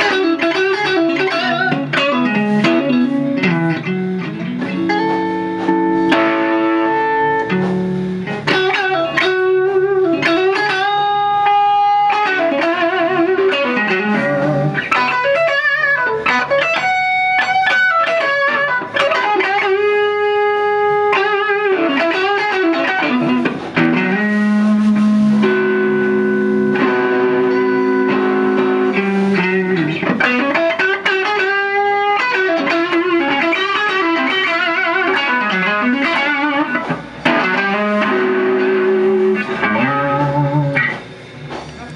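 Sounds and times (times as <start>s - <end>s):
overdriven electric guitar lead: 0.0s - 41.9s.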